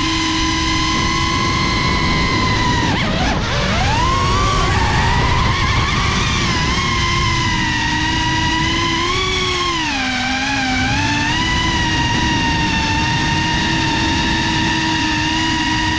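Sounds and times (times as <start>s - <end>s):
drone propellers whining: 0.0s - 15.9s.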